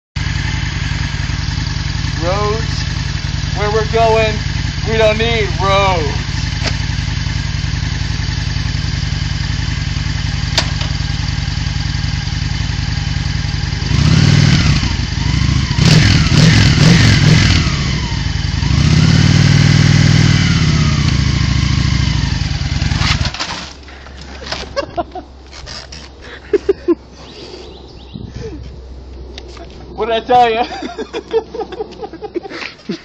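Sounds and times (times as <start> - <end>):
motorcycle engine idling and revving: 0.2 - 33.0.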